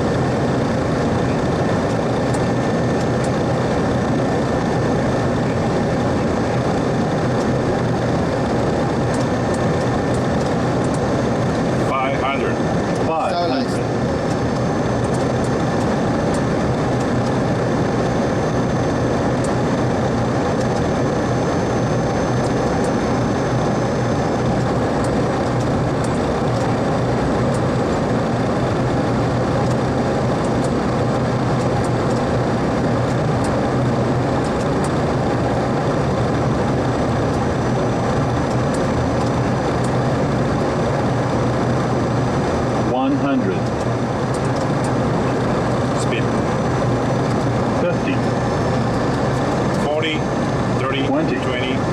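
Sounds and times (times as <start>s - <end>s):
faint high whine: 0.0s - 51.9s
jet engines idling hum: 0.0s - 51.9s.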